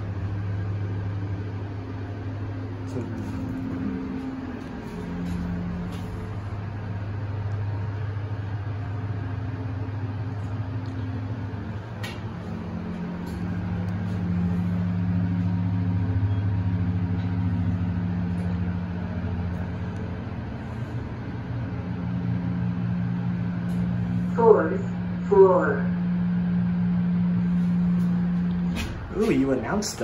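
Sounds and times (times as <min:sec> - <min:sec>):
elevator humming: 0:00.0 - 0:30.0.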